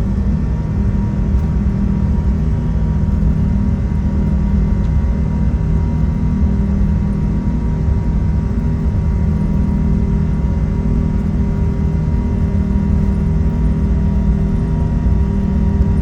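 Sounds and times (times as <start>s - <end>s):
airplane cabin rumble: 0.0s - 16.0s
faint steady hum: 0.0s - 16.0s.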